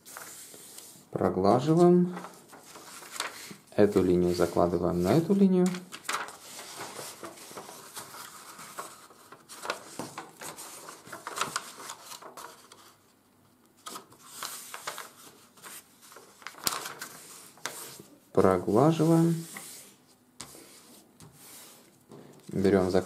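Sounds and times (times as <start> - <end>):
paper rustling and crackling: 0.0 - 13.0, 13.8 - 23.0.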